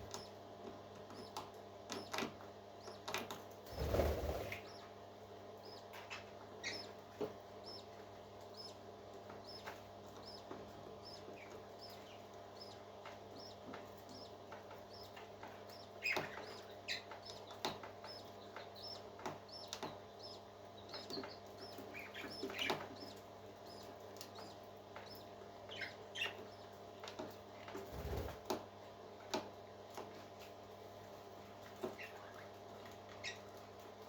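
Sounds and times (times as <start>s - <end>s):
parrot chicks peeping: 0.0s - 34.0s.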